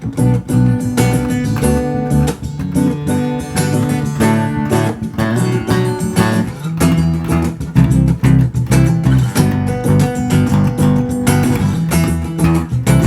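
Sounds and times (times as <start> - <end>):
bass line: 0.0 - 13.0
strummed acoustic guitar: 0.0 - 13.0.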